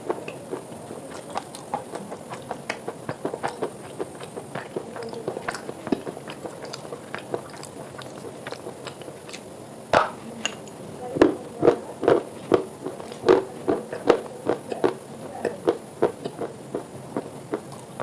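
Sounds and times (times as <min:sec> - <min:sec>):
crunchy food being chewed: 0:00.0 - 0:18.0.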